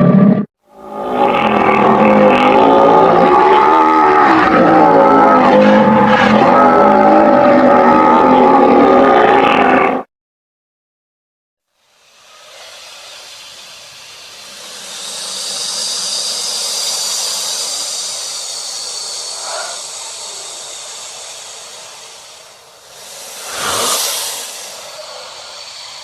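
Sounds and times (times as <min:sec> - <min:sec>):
alligator hissing: 0:01.2 - 0:09.2, 0:12.0 - 0:26.0.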